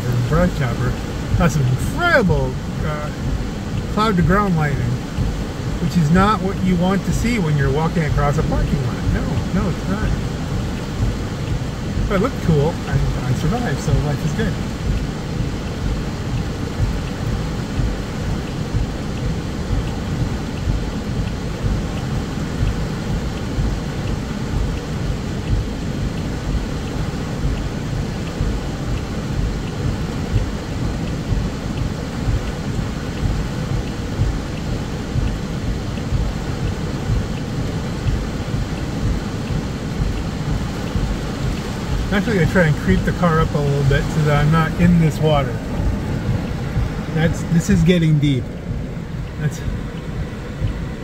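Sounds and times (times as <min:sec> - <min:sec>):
heavy rain drumming on car roof: 0:00.0 - 0:51.0.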